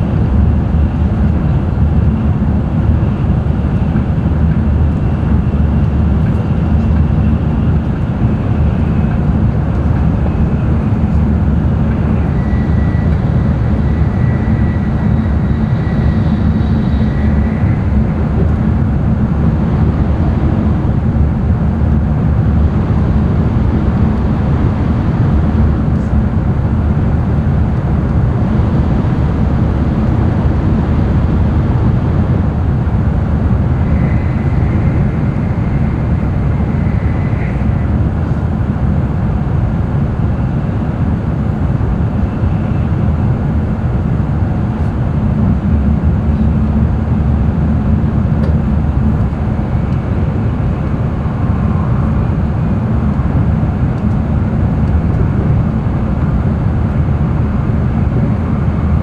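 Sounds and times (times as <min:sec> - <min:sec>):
faint high whine: 0:00.0 - 0:45.0, 0:48.0 - 0:59.0
train rumble inside cabin: 0:00.0 - 0:59.0.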